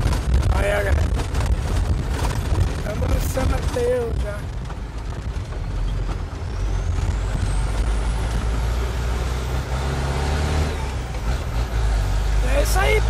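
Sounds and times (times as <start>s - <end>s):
truck engine from inside cab: 0.0s - 13.0s.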